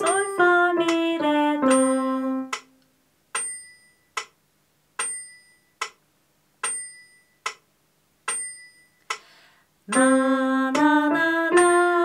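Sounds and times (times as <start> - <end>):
metronome ticking: 0.0 - 4.4, 5.0 - 6.0, 6.6 - 7.7, 8.3 - 11.8.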